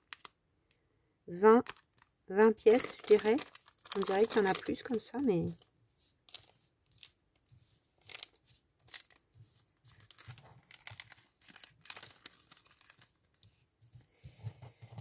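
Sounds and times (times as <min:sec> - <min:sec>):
paper and plastic packet rustling: 0:01.6 - 0:15.0.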